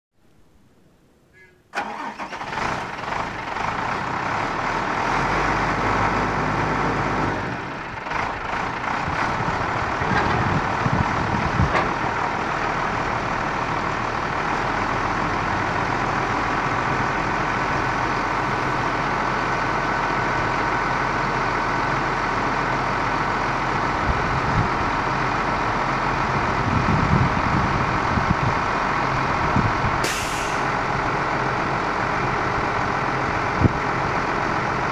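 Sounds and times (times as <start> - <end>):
diesel truck engine running: 1.7 - 34.9.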